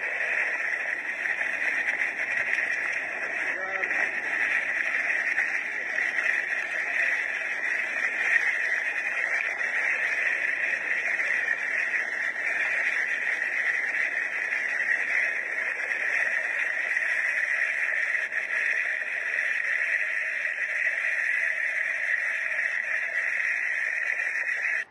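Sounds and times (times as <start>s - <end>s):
flash flood rushing: 0.0s - 24.9s.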